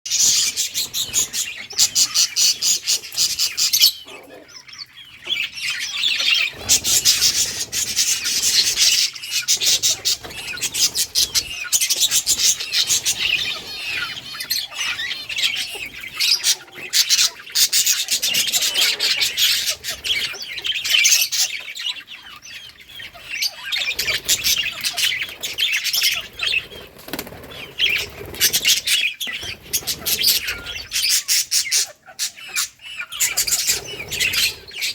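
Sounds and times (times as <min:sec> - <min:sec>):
budgerigars chirping and warbling: 0:00.1 - 0:34.9.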